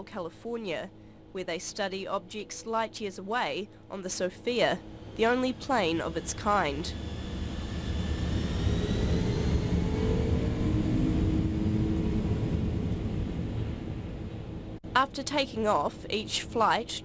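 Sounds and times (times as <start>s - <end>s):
faint rising engine whine: 0.0s - 15.0s
jet engines rumbling: 1.2s - 16.8s.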